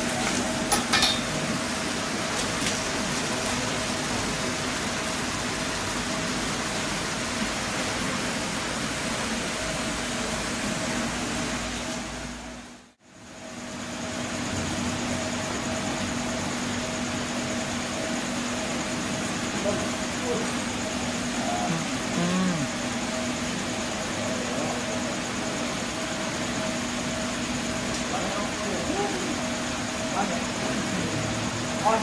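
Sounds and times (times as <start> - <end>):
mechanical hum and hiss: 0.0 - 32.0.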